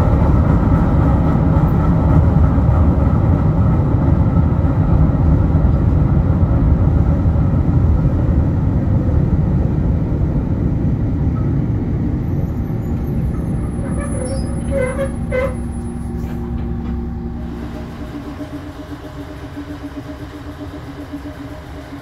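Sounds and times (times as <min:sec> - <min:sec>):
diesel railcar rumbling: 0:00.0 - 0:22.0.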